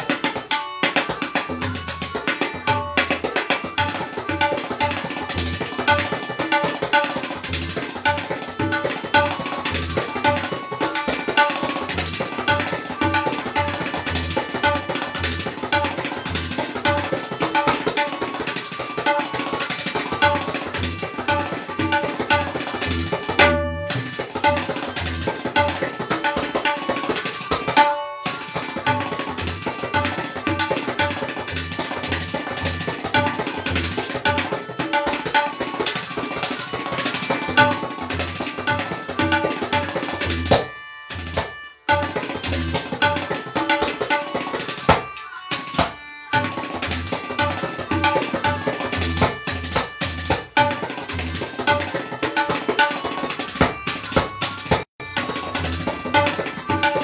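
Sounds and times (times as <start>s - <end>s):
tabla drumming: 0.0s - 57.0s.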